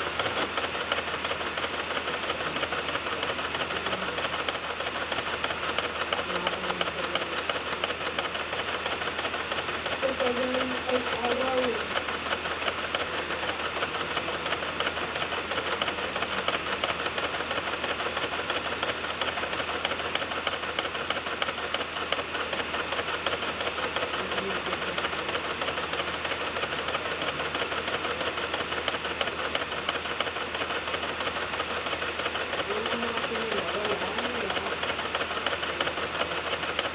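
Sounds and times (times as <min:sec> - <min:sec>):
disc spinning whir: 0:00.0 - 0:36.9
laser head clicking: 0:00.0 - 0:36.9.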